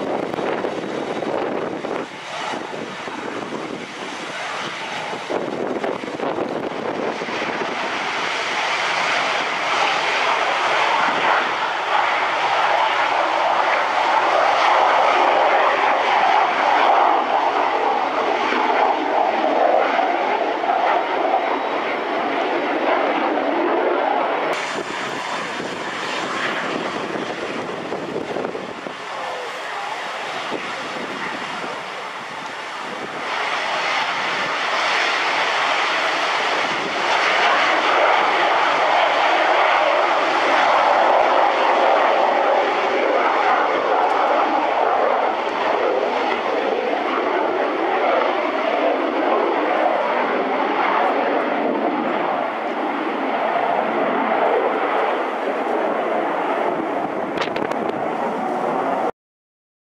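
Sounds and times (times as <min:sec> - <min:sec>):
jet engines at takeoff: 0:00.0 - 0:59.1.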